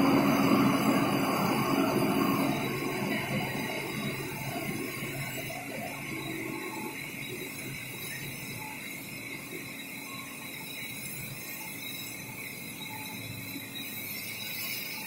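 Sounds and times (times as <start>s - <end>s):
machine hum and hiss: 0.0s - 15.0s
thin high whine: 0.0s - 15.0s.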